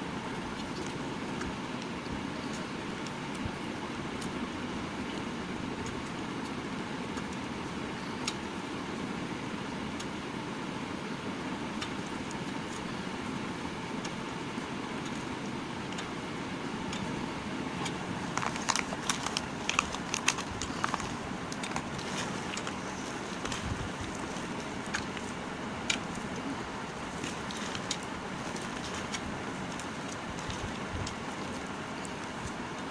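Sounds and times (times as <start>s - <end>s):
low background rumble: 0.0s - 32.9s.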